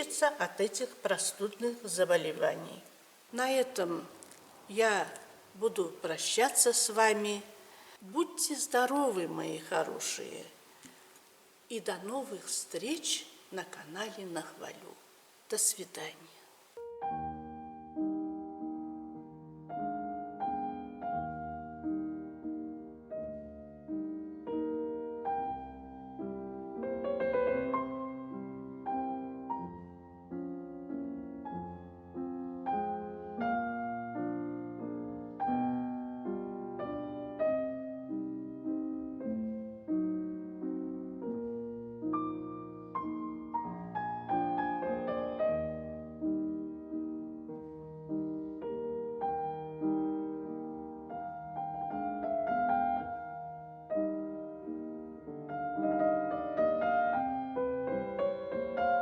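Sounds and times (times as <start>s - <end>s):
gentle piano music: 0.0s - 7.5s, 8.2s - 10.6s, 16.7s - 59.0s.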